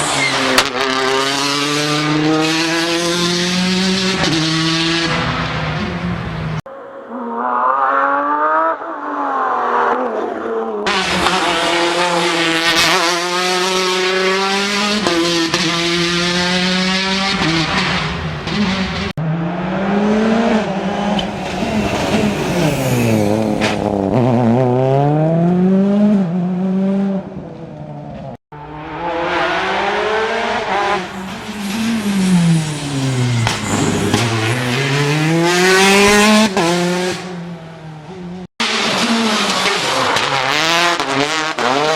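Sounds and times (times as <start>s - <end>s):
rally car engines revving: 0.0s - 6.7s, 7.6s - 41.9s.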